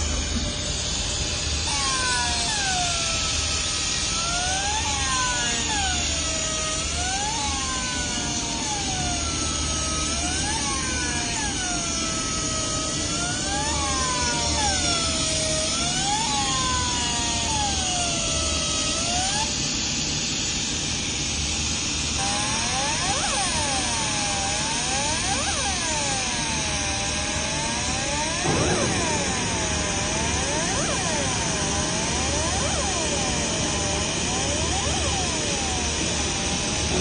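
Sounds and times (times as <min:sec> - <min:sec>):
machine whining tones: 0:00.0 - 0:37.0.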